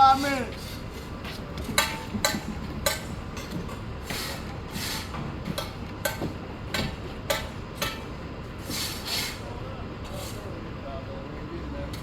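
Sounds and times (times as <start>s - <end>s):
low mechanical rumble of machinery: 0.0s - 12.0s.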